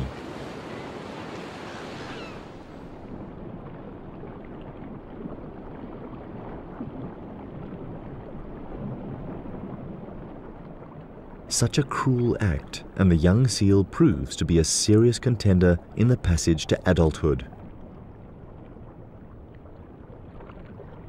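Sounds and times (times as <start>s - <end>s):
muffled underwater rush: 0.0s - 21.0s.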